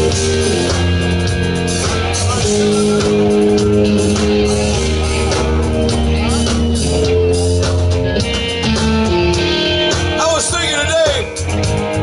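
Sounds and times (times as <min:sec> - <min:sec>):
bass guitar: 0:00.0 - 0:12.0
drums: 0:00.0 - 0:12.0
electric guitars: 0:00.0 - 0:12.0.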